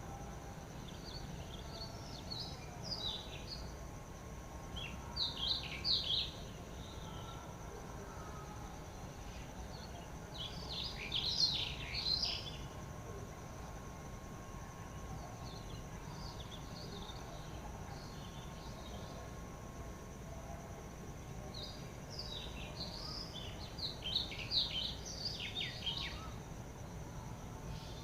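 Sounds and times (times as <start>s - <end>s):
faint high drone: 0.0s - 28.0s
songbirds chirping: 0.0s - 28.0s.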